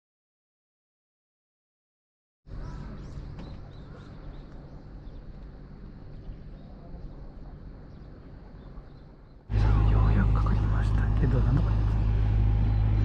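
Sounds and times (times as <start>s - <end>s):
low outdoor rumble: 2.5s - 13.0s.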